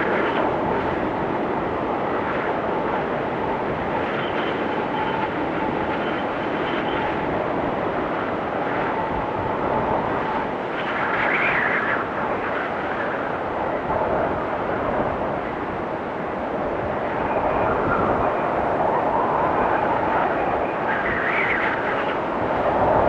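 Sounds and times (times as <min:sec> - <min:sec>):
blizzard wind blowing: 0:00.0 - 0:23.0
wind whistle: 0:00.0 - 0:23.0.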